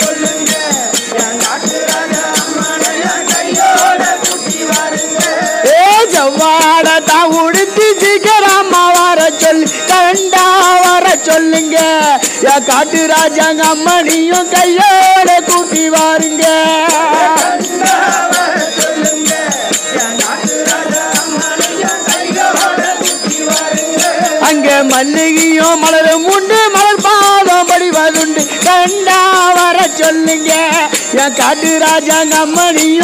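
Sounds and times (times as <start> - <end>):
frame drums beaten fast: 0.0 - 33.0.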